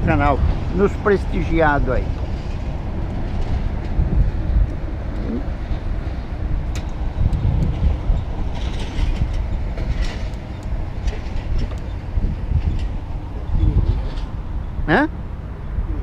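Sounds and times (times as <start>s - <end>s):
heavy traffic rumble: 0.0s - 16.0s.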